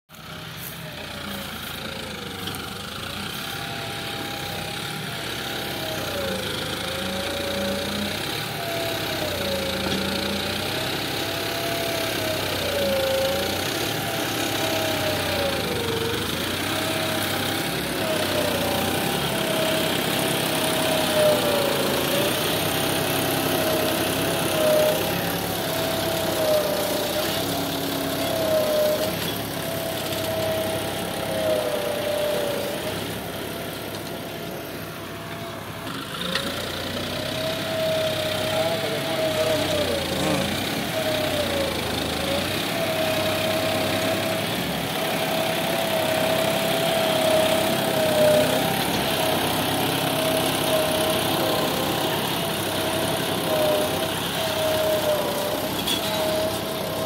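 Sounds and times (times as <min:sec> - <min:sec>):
tractor diesel engine under load: 0:00.1 - 0:57.0.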